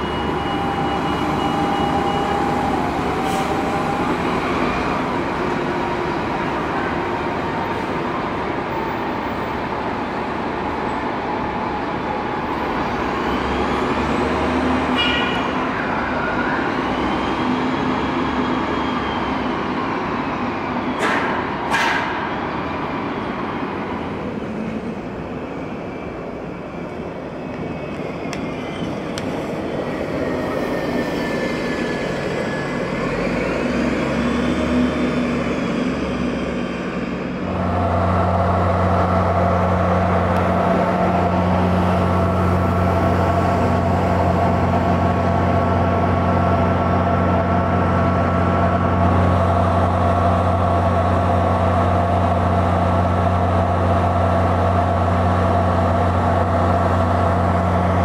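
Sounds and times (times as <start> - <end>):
bus engines running: 0.0 - 58.0
engine whine: 0.0 - 58.0.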